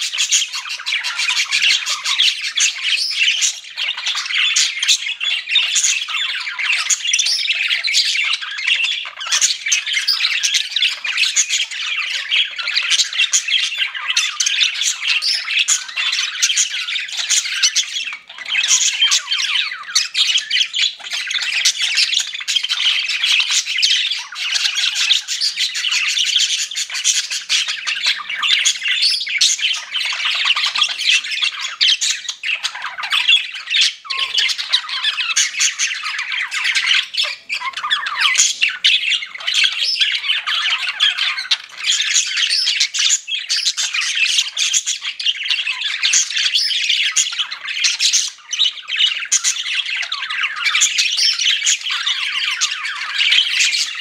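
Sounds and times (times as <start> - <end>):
budgerigars chirping: 0.0 - 54.0.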